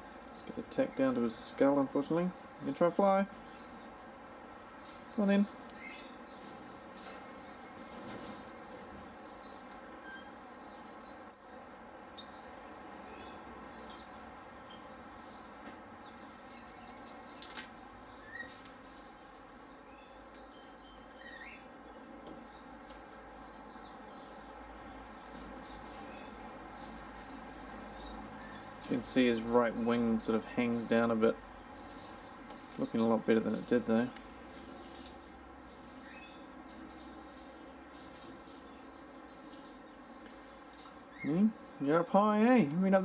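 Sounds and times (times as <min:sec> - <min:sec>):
birds chirping: 0:00.0 - 0:43.0
steady background hum: 0:00.0 - 0:43.0.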